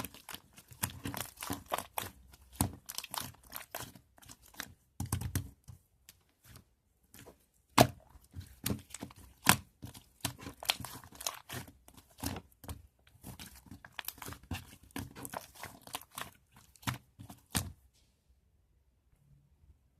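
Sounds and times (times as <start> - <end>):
crackling crinkling handling noise: 0.0 - 4.7, 6.1 - 17.8.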